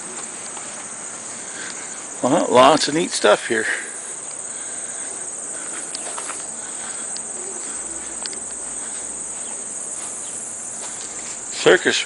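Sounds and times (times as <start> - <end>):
high-pitched hissing buzz: 0.0 - 12.0.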